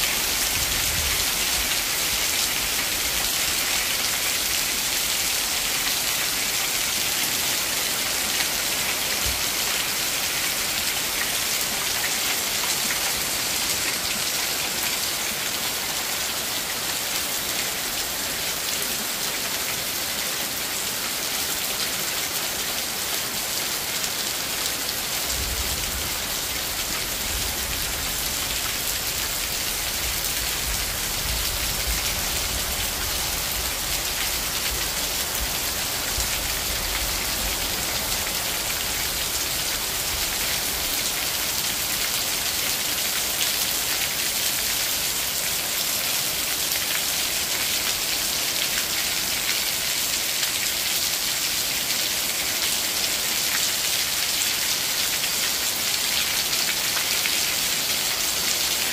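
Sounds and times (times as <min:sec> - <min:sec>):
rain on a roof: 0:00.0 - 0:58.9.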